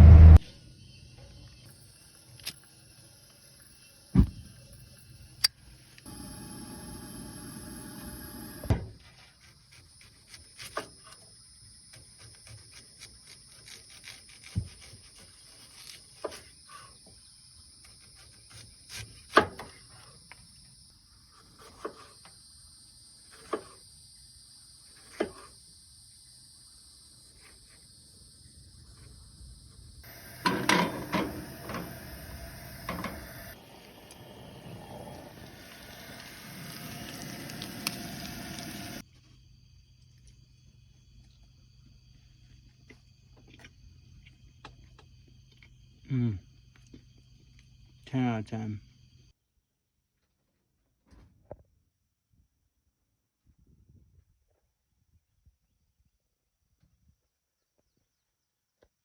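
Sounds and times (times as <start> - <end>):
crickets trilling: 0.5 - 49.3.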